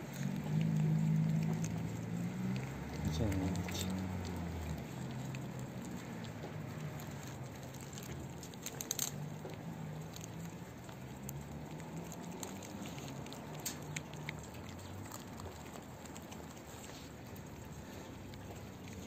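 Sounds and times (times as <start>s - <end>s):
cats chewing wet food: 0.0s - 19.0s.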